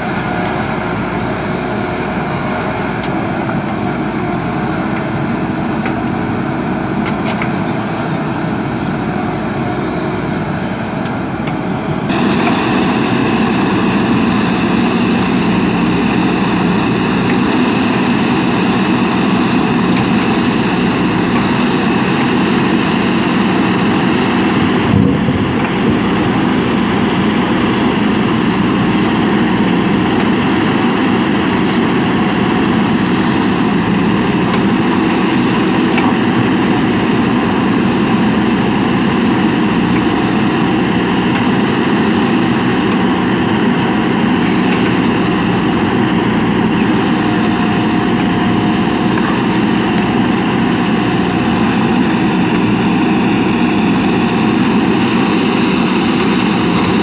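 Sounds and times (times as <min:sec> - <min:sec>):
backhoe digging soil: 0:00.0 - 0:57.0
diesel engine running: 0:00.0 - 0:57.0.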